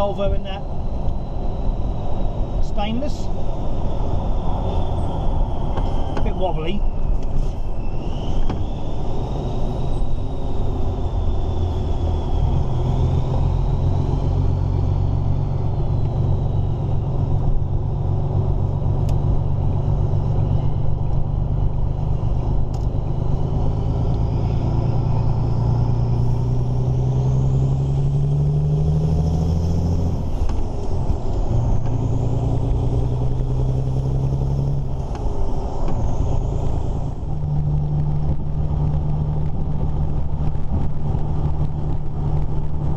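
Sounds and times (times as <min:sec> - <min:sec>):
truck diesel engine pulling: 0:00.0 - 0:42.9.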